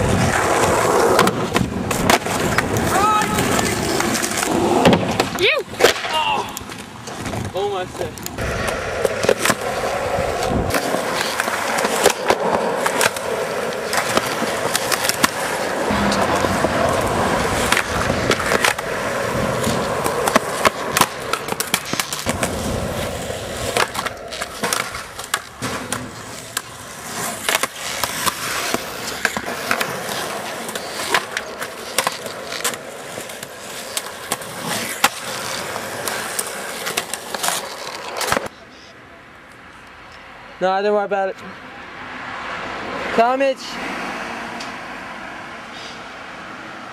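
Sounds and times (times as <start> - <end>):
skateboard clacks and knocks: 0.0 - 7.6, 8.3 - 38.5
skateboard wheels rolling on concrete: 0.0 - 46.9.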